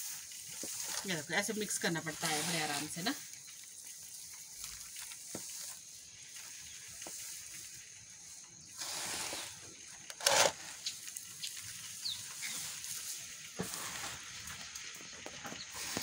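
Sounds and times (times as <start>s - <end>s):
hands stirring dry straw: 0.0s - 16.0s.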